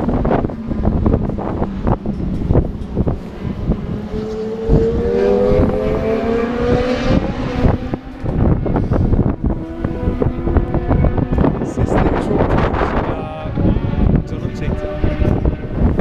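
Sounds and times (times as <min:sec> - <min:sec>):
racing engine accelerating: 0:00.0 - 0:16.0
second engine: 0:00.0 - 0:16.0
wind buffeting microphone: 0:00.0 - 0:16.0.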